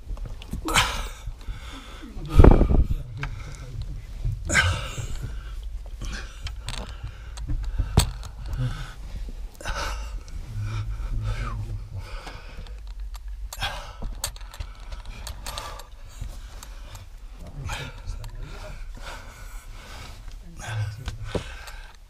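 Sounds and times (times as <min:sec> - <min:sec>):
rustling: 0:00.0 - 0:22.0
heavy breathing: 0:00.5 - 0:22.0.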